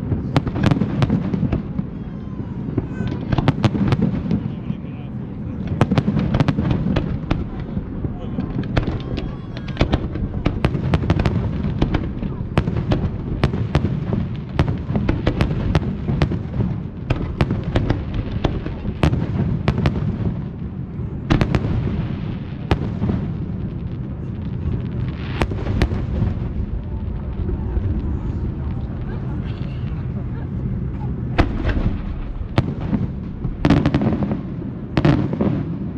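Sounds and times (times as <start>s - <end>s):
fireworks bangs and cracks: 0.0s - 35.9s
steady low rumble: 2.6s - 35.9s.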